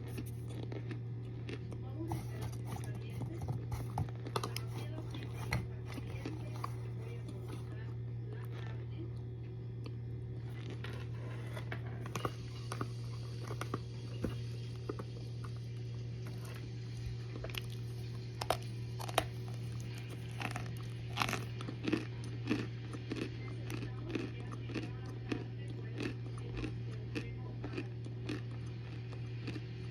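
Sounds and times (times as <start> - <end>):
cornstarch crunching and crackling: 0.0 - 29.9
steady low hum: 0.0 - 29.9.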